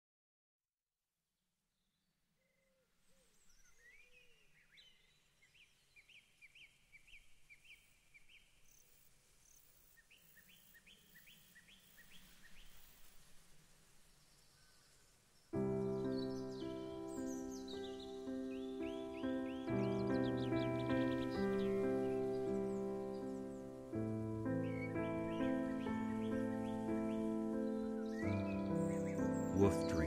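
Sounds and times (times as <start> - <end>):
faint songbird singing: 1.7 - 30.0.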